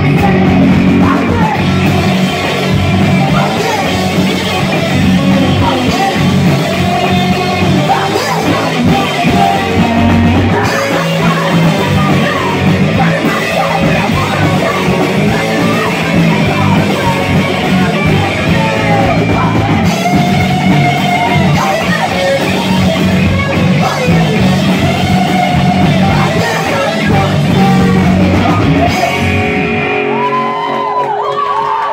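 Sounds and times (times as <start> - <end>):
woman singing: 0.0 - 29.2
drums: 0.0 - 31.9
electric guitars: 0.0 - 31.9.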